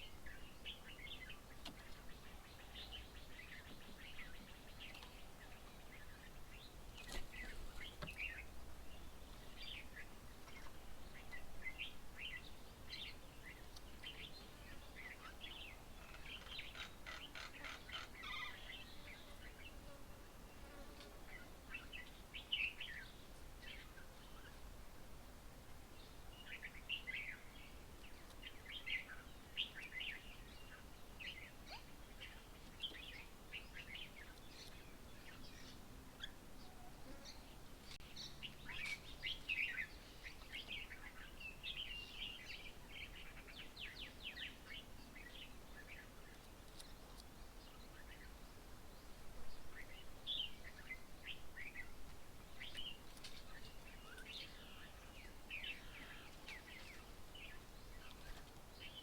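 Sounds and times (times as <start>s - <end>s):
birds chirping: 0.0s - 24.6s, 26.0s - 59.0s.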